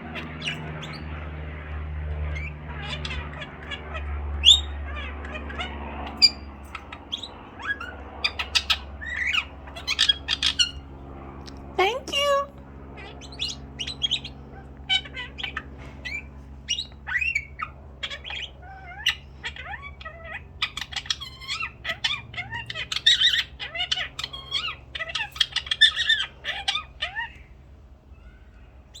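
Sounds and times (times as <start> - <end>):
birds chirping and squawking: 0.0 - 29.0.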